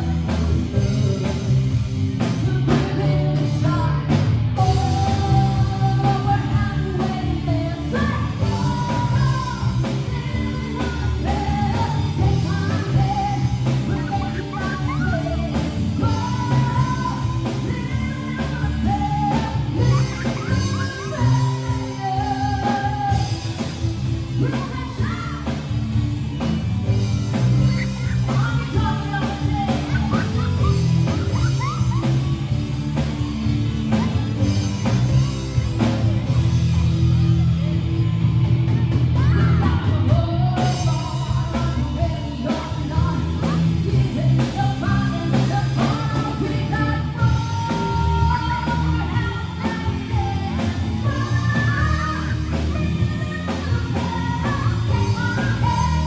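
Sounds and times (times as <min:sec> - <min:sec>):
woman singing: 0:00.0 - 0:25.9, 0:27.2 - 0:32.4, 0:38.7 - 0:56.0
rock band playing: 0:00.0 - 0:56.0.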